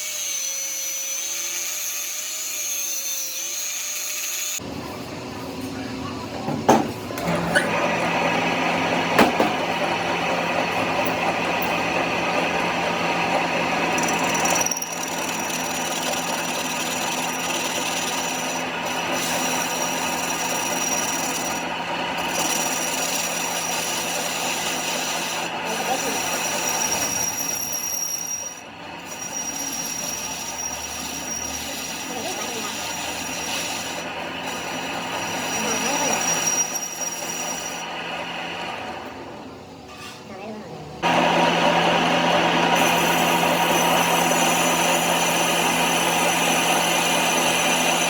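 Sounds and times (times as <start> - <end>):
power tool scraping metal: 0.0 - 4.6, 7.2 - 38.2, 41.0 - 48.0.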